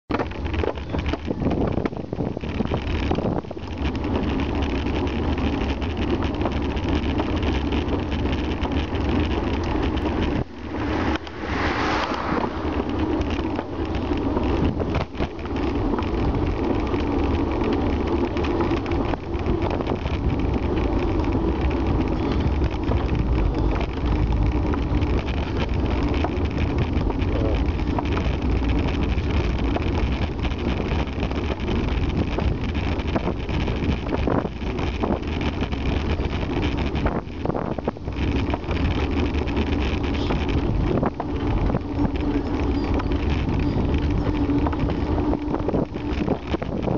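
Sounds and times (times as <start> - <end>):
tyre and road noise: 0.0 - 46.9
wind rumbling on microphone: 0.1 - 46.9.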